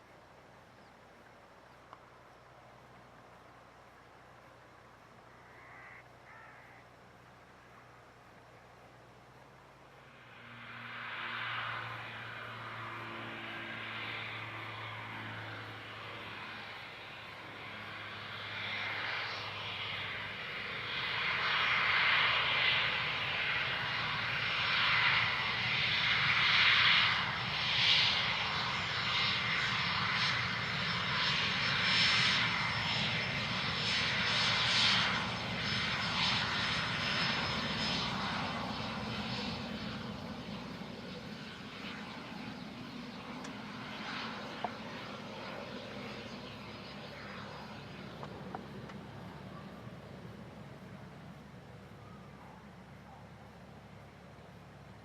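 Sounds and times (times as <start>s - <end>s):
jet engines passing: 7.0s - 55.0s.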